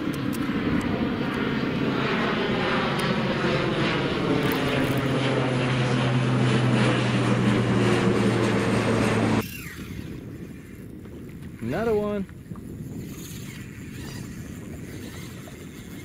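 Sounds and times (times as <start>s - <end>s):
propeller airplane droning overhead: 0.0s - 16.0s.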